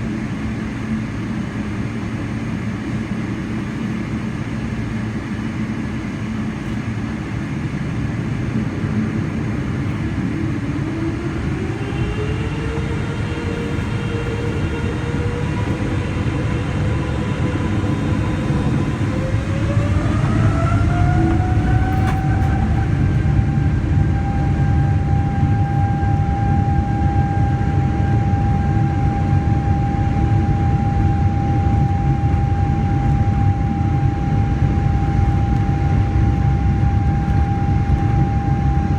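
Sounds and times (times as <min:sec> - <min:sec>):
deep engine rumble: 0:00.0 - 0:38.9
jet engine whine: 0:00.0 - 0:38.9.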